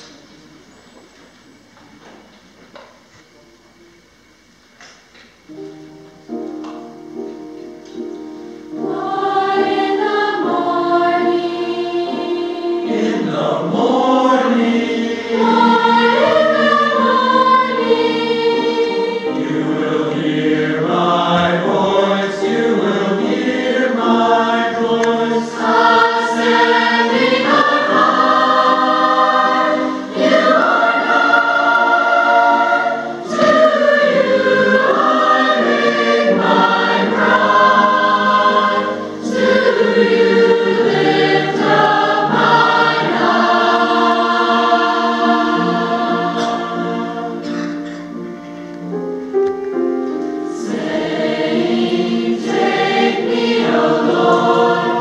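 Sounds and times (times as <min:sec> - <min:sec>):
mixed choir singing a hymn: 0:07.9 - 0:48.4, 0:50.4 - 0:55.0.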